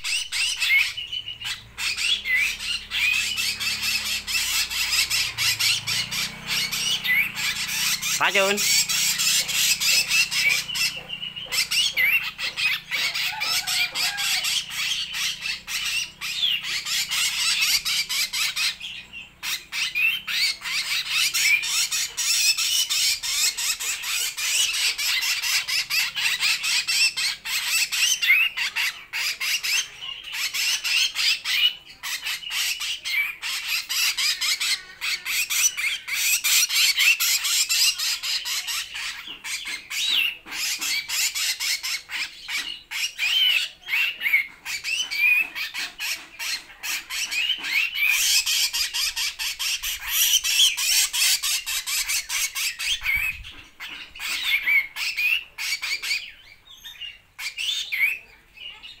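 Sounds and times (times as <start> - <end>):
fledglings begging calls: 0.0 - 59.0.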